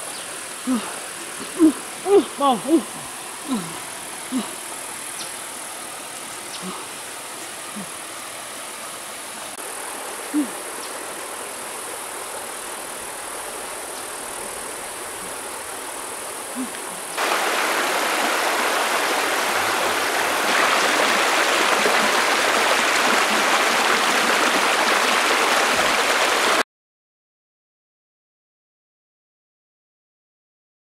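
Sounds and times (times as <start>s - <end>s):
water rushing over stones: 0.0s - 26.6s.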